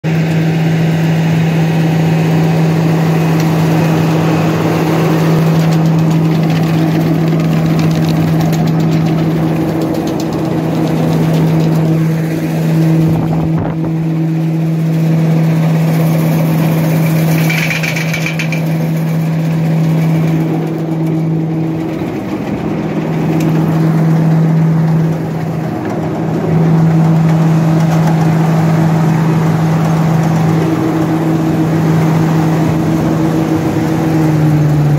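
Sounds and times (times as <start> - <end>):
harvester engine drone: 0.1 - 34.9.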